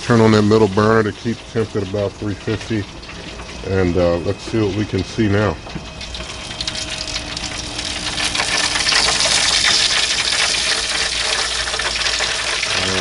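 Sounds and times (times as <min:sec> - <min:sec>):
drippings sizzling: 0:00.0 - 0:13.0
faint steady hum: 0:00.0 - 0:13.0
gas grill burners hissing: 0:00.0 - 0:13.0.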